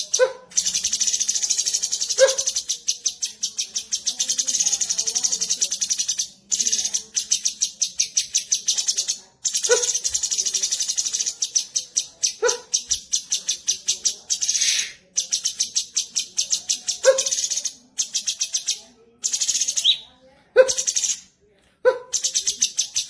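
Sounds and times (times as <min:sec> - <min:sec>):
bird chattering high notes: 0:00.0 - 0:20.0.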